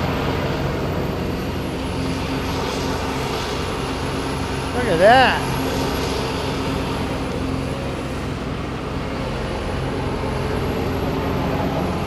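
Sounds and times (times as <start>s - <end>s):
excavator diesel engine drone: 0.0s - 12.0s.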